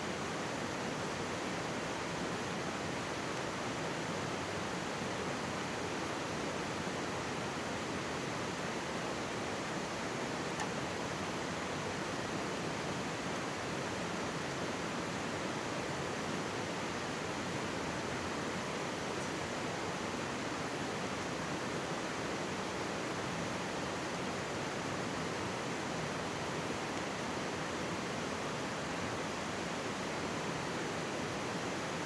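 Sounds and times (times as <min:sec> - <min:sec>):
stream rushing: 0:00.0 - 0:32.0.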